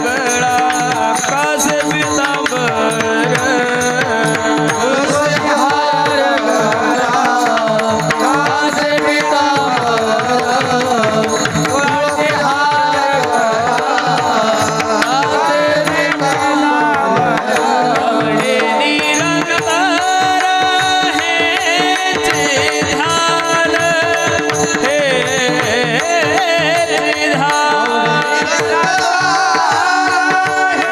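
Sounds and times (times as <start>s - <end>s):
hand drum: 0.0s - 30.9s
man singing ornamented phrases: 0.0s - 30.9s.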